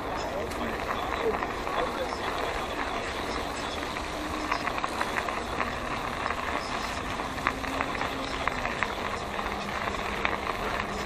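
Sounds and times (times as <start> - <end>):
tyres rolling on asphalt: 0.0 - 11.0.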